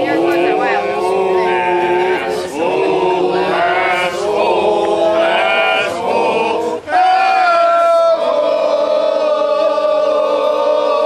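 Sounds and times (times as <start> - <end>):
group singing drinking song: 0.0 - 11.0.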